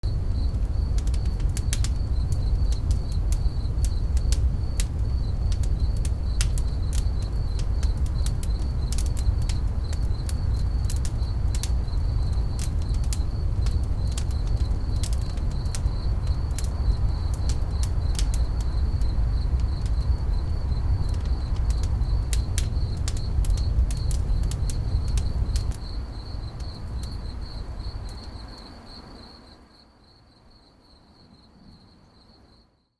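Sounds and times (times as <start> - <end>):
campfire crackling and popping: 0.0 - 28.4
steady low rumble: 0.0 - 28.5
crickets chirping: 0.0 - 32.9.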